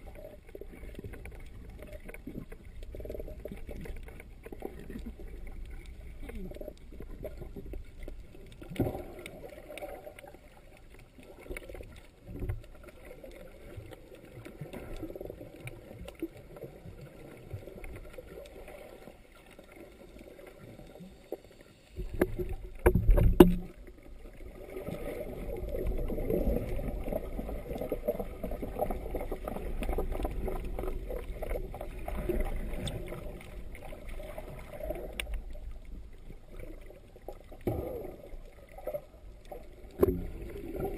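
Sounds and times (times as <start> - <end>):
muffled underwater rushing: 0.0 - 40.9.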